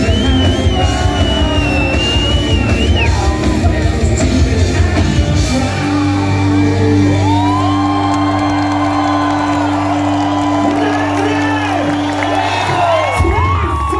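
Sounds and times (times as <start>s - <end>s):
crowd whooping and cheering: 0.0s - 13.9s.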